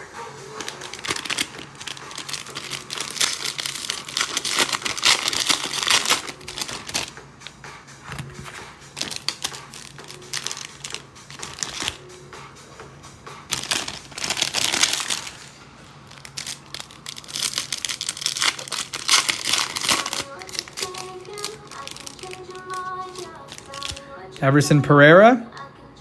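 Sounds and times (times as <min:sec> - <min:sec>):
plastic wrappers crinkling and tearing: 0:00.5 - 0:12.0, 0:13.5 - 0:24.2.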